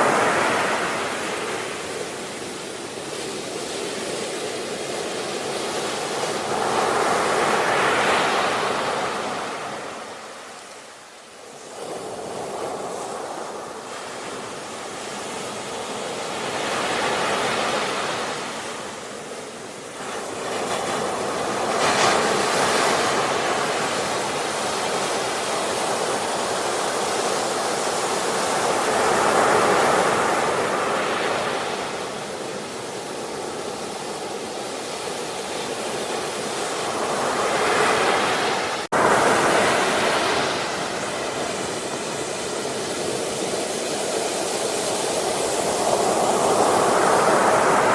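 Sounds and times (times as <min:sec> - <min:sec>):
sea waves surging: 0:00.0 - 0:47.9.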